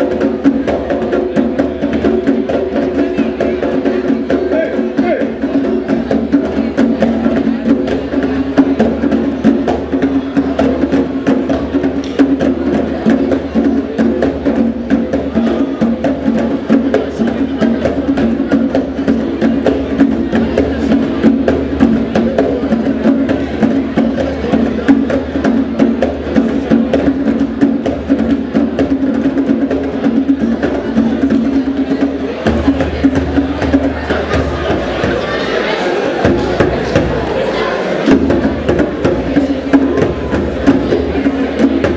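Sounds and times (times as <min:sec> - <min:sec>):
djembe drums playing fast rhythm: 0:00.0 - 0:41.9.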